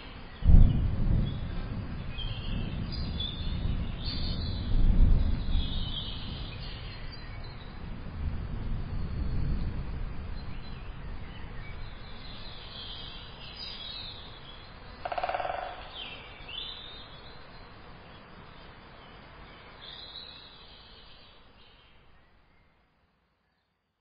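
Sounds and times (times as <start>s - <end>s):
faint outdoor background noise: 0.0s - 24.0s.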